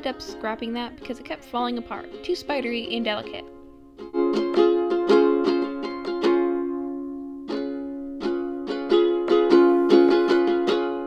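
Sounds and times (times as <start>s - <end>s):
strummed string instrument chords: 0.0s - 11.0s.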